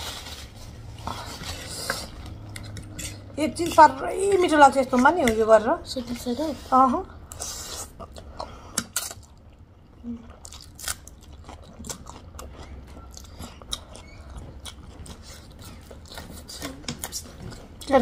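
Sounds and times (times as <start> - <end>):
person chewing food: 0.0 - 3.8, 7.1 - 18.0
low steady hum: 0.0 - 18.0.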